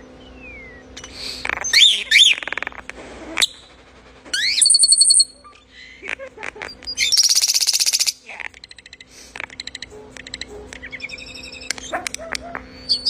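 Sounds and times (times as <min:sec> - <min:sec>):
starling singing: 0:00.0 - 0:03.7, 0:04.3 - 0:13.0.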